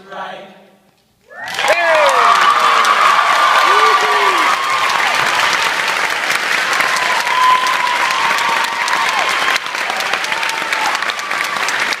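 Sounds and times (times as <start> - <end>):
audience applauding: 1.3 - 12.0.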